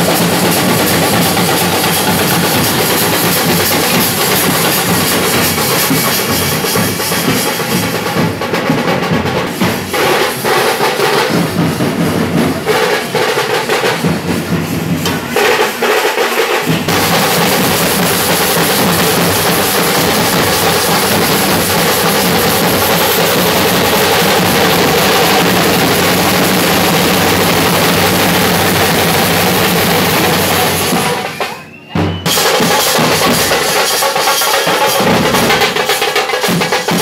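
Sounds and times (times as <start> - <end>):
drum band drumming in rolls: 0.0 - 37.0.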